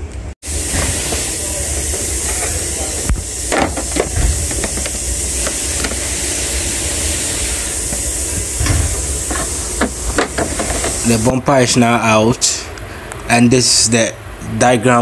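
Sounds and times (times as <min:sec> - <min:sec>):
steady high hiss: 0:00.4 - 0:15.0.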